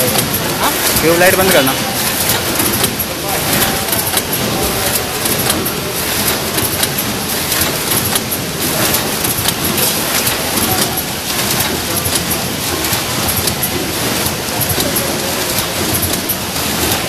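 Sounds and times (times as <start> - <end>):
packing machine clattering: 0.0 - 17.0
sharp mechanical ticks: 0.0 - 17.0.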